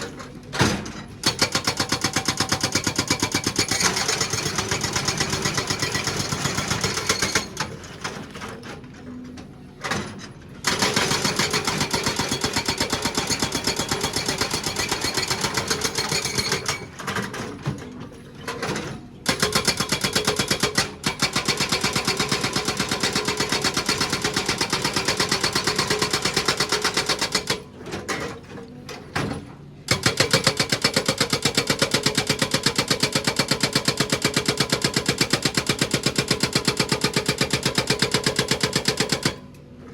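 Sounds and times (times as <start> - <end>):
hydraulic breaker hammering rock: 0.0 - 8.7, 9.8 - 39.9.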